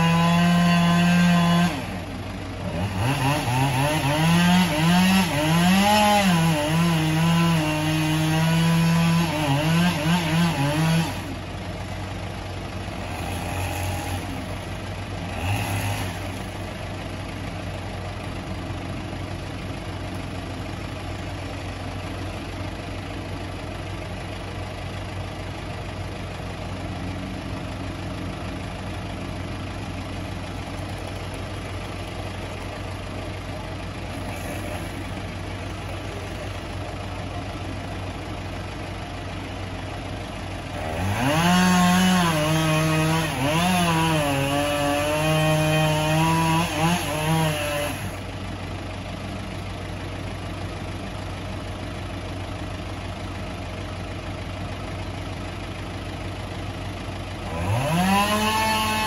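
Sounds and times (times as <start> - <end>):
wood chipper engine running: 0.0 - 59.0.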